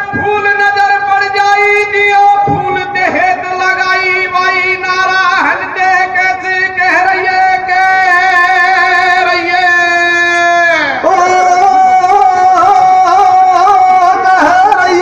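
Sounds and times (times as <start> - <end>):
man singing high wavering notes: 1.6 - 15.0.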